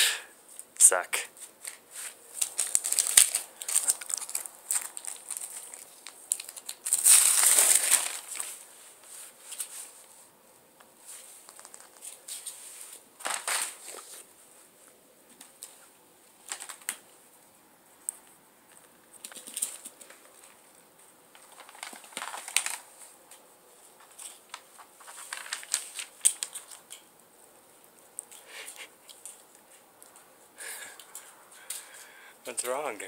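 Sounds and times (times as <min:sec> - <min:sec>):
wrapping paper rustling and crinkling: 0:01.3 - 0:10.3, 0:11.0 - 0:17.2, 0:19.1 - 0:32.1.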